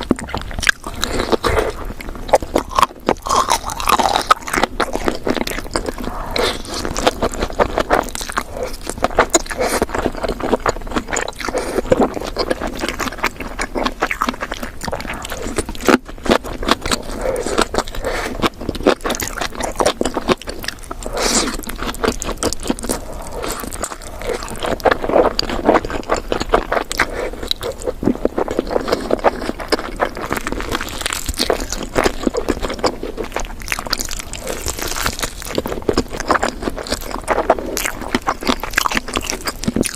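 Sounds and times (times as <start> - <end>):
chewing and biting: 0.0 - 39.9.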